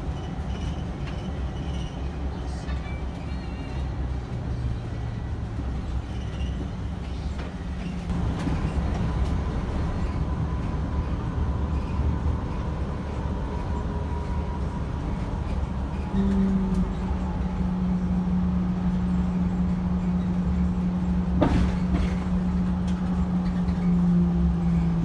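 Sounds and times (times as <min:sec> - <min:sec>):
bus engine drone: 0:00.0 - 0:25.0
road noise: 0:00.0 - 0:25.0.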